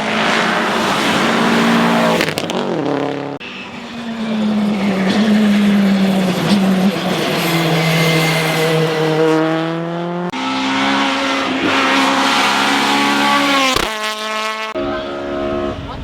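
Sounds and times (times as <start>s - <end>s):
race car engine under load: 0.0s - 16.0s.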